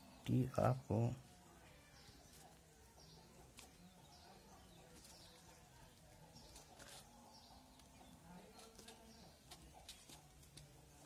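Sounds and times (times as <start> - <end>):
faint bird chirps: 0.0 - 10.3.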